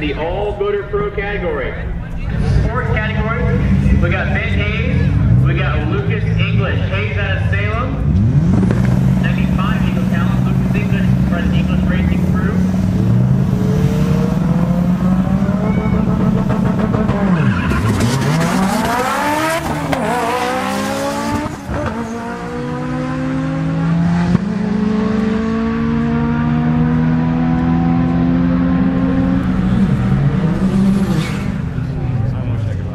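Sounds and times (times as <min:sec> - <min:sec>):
cars idling: 0:00.0 - 0:32.9
drag cars revving and accelerating: 0:00.0 - 0:32.9.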